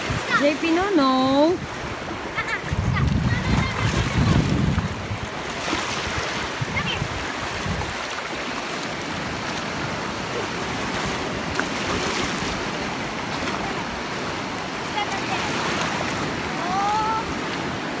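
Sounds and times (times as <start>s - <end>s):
small waves breaking on shore: 0.0s - 18.0s.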